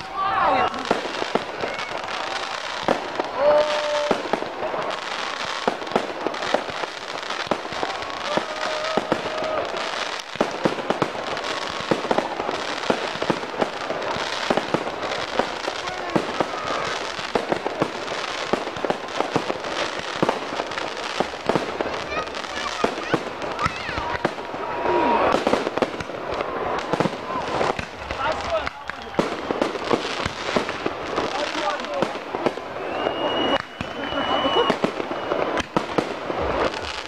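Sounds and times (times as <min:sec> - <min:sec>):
fireworks crackling: 0:00.0 - 0:37.0
fireworks pops and bangs: 0:00.0 - 0:37.0.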